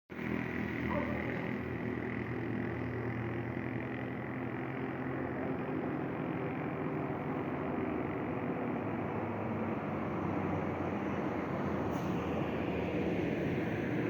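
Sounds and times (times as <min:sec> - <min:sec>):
high engine whine: 0:00.1 - 0:14.0.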